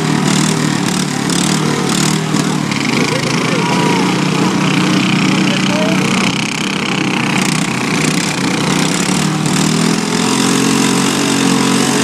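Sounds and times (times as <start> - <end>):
riding lawn mower engines revving: 0.0 - 12.0.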